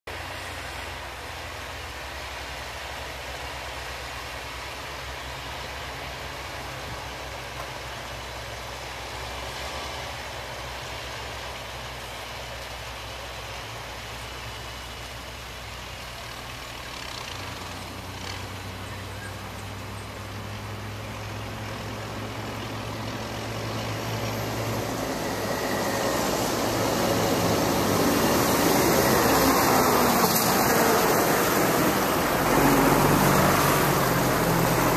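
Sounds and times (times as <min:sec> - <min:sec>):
tractor engine drone: 0:00.0 - 0:34.9.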